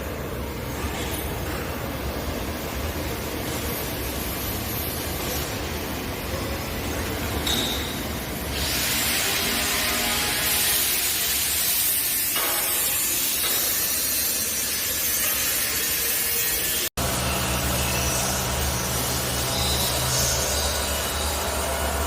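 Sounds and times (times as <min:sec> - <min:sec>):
machine noise with hiss: 0:00.0 - 0:22.0.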